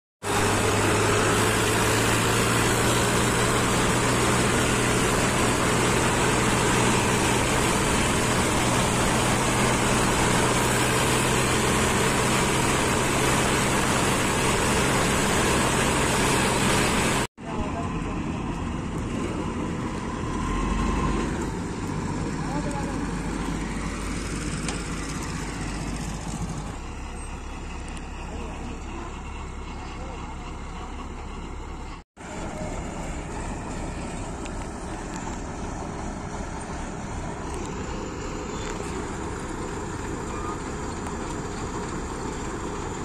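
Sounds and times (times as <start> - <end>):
combine harvester engine running: 0.2 - 43.0
road noise: 0.2 - 43.0
tractor engine running: 0.2 - 43.0.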